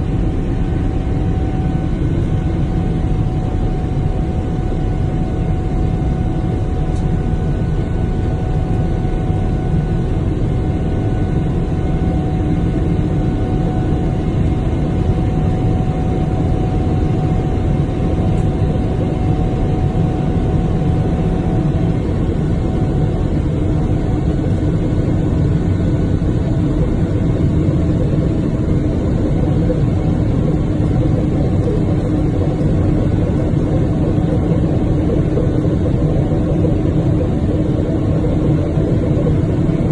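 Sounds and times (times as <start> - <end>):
airplane engine rumble in cabin: 0.0 - 39.9
steady engine tones: 7.6 - 39.9.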